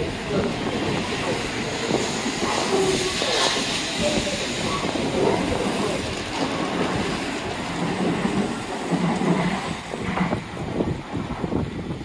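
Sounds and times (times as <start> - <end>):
train rushing noise: 0.0 - 12.0.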